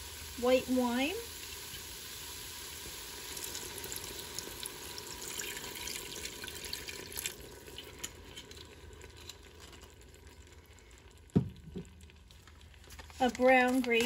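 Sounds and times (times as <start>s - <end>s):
pan sizzling: 0.0s - 14.0s
wine pouring into a pot: 0.0s - 14.0s.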